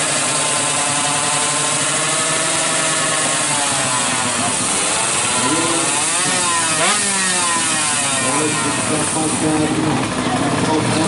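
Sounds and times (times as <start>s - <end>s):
two-stroke engine revving: 0.0s - 11.0s.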